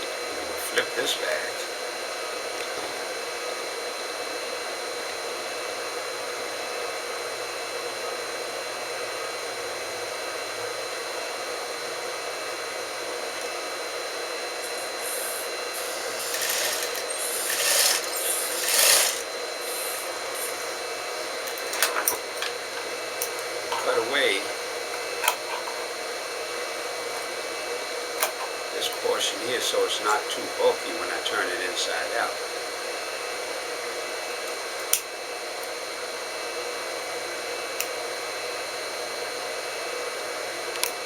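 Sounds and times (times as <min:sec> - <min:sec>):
steady whirring hiss: 0:00.0 - 0:41.0.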